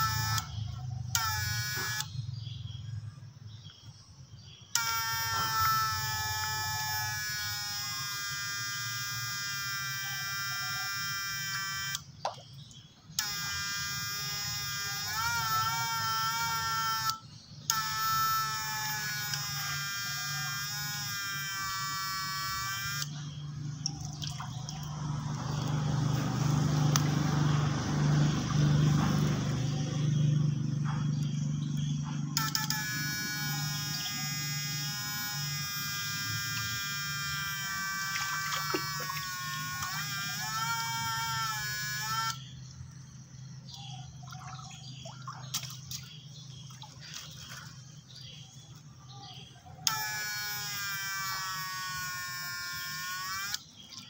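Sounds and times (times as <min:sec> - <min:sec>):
inverter buzzing: 0:00.0 - 0:03.2, 0:04.5 - 0:54.0.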